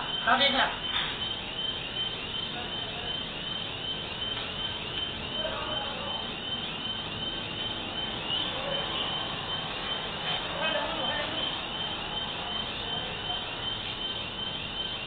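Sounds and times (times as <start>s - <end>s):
high-pitched chirp: 0.0s - 15.0s.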